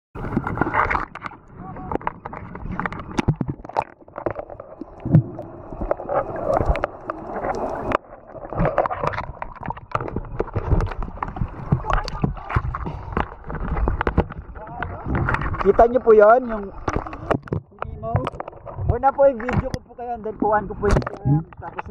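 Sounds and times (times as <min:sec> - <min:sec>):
muffled underwater rush: 0:00.2 - 0:21.9
seawater sloshing and gurgling: 0:00.2 - 0:21.9.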